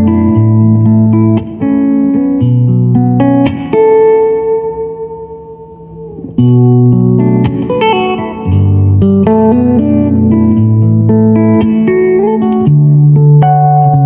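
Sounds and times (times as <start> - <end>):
electric guitar picked notes: 0.0 - 14.0.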